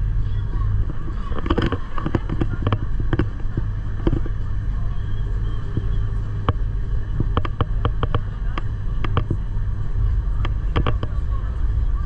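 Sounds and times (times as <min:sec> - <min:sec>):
train rumbling: 0:00.0 - 0:12.0
sharp clacks of train: 0:00.5 - 0:09.6, 0:10.2 - 0:11.5.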